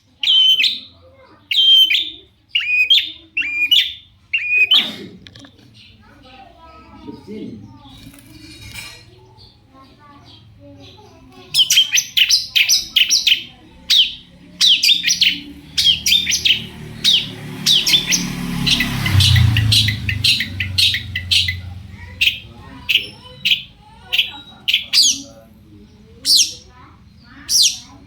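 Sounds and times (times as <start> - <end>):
shrike chattering song: 0.1 - 4.9, 10.3 - 28.0.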